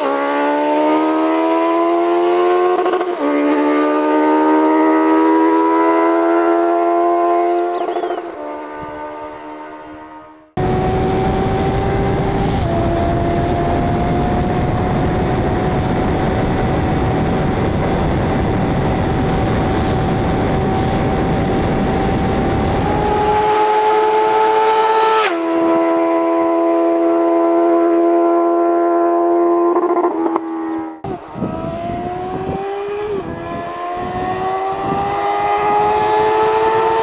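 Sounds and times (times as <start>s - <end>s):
motorcycle engine revving high: 0.0s - 37.0s.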